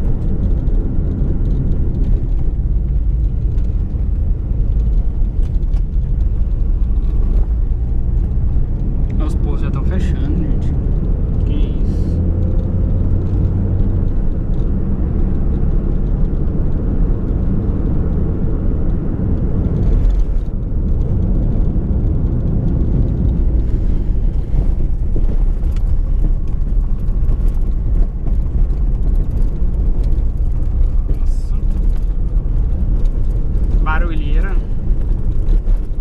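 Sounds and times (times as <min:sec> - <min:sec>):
car engine hum: 0:00.0 - 0:36.0
road rumble: 0:00.0 - 0:36.0.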